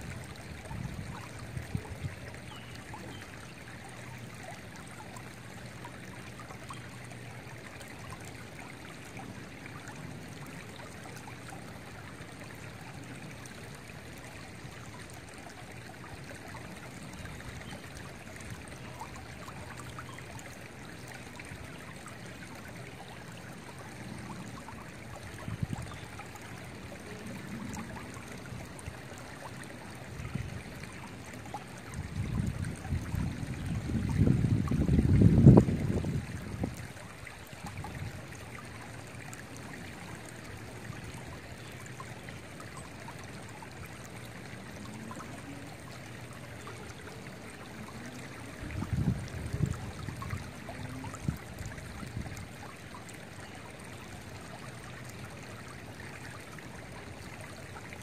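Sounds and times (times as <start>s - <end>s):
creek flowing over rocks: 0.0s - 58.0s.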